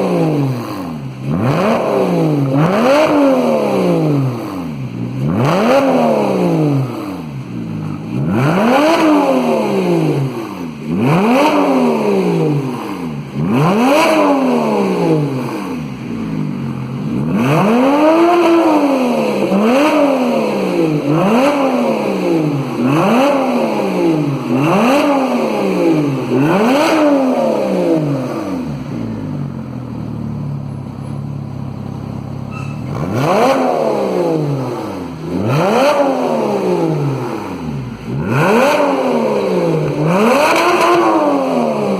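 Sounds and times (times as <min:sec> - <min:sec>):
car engine idling: 0:00.0 - 0:41.9
car engine revving: 0:00.0 - 0:41.9.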